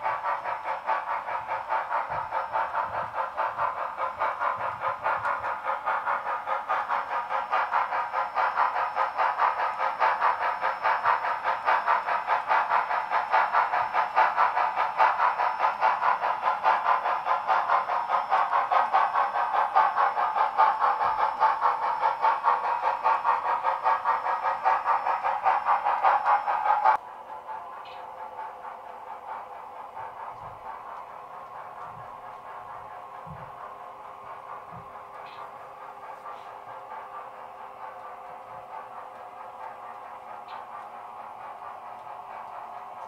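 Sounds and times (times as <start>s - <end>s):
tinny steam chuffing from speaker: 0.0s - 43.0s.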